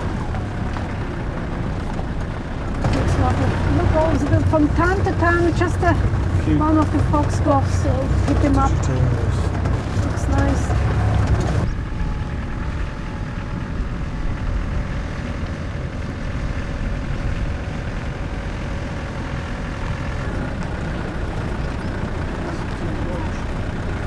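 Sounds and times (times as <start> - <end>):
vehicle engine and tyre rumble: 0.0 - 24.0.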